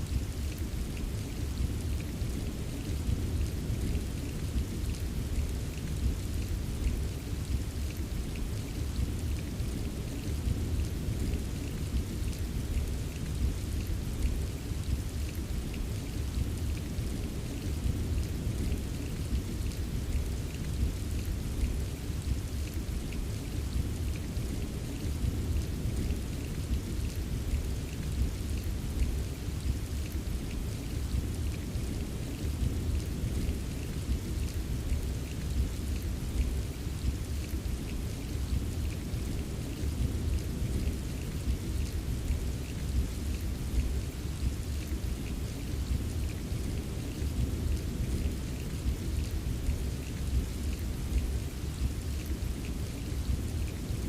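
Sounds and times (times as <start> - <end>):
steady rain: 0.0 - 54.0
raindrops tapping on a surface: 0.1 - 54.0.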